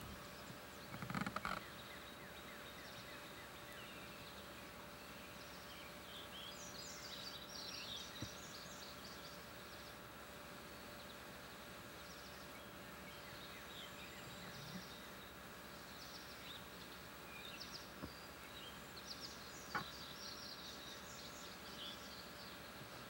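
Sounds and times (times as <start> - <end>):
background hiss: 0.0 - 23.0
small birds chirping: 0.0 - 23.0.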